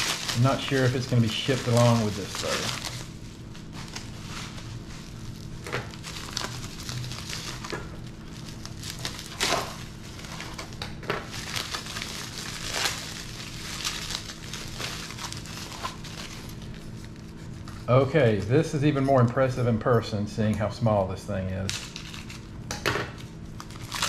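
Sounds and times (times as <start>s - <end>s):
bubble wrap crinkling: 0.0s - 18.0s, 21.7s - 22.6s, 23.2s - 24.0s.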